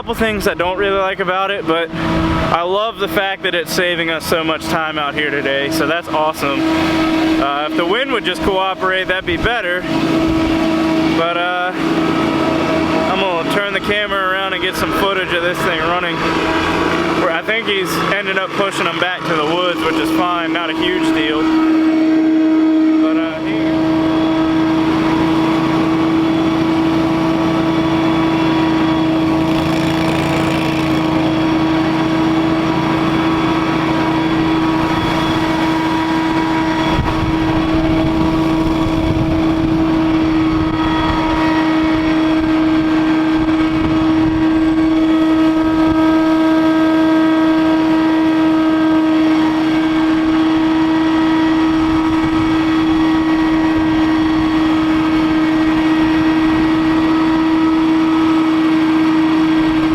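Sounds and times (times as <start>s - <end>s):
leaf blower engine humming: 0.0s - 59.9s.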